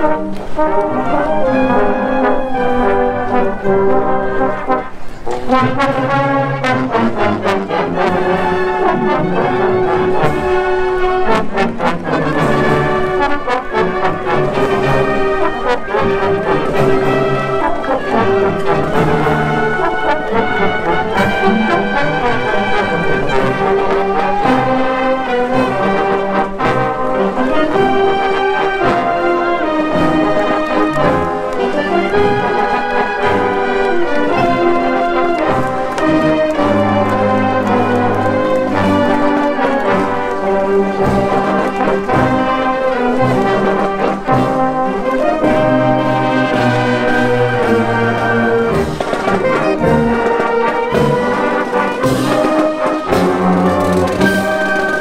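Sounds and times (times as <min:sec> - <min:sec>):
marching band playing: 0:00.0 - 0:55.0.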